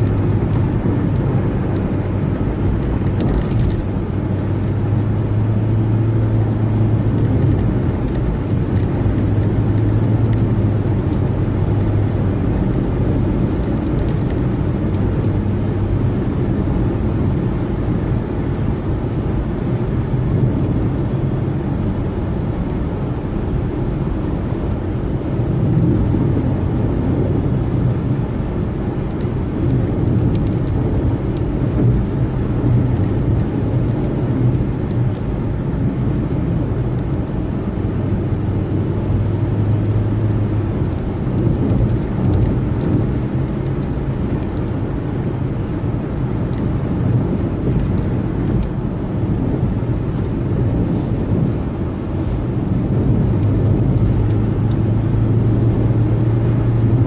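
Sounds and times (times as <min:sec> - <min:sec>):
tyre and road noise: 0:00.0 - 0:57.0.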